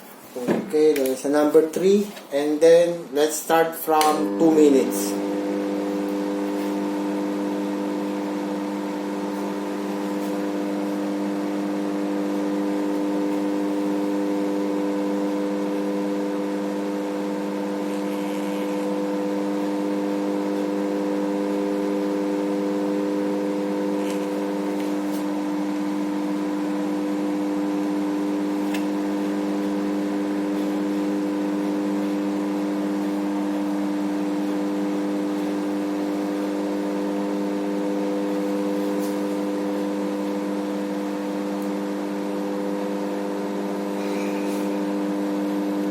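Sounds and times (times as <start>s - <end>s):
microwave oven humming: 3.9s - 45.9s.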